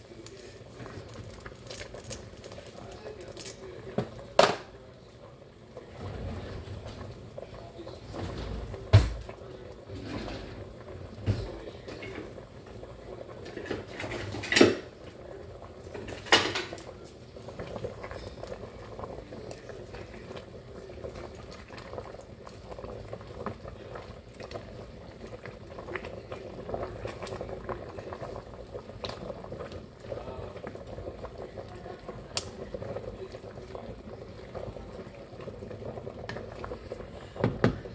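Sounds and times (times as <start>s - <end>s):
water boiling in a pot: 0.0s - 37.9s.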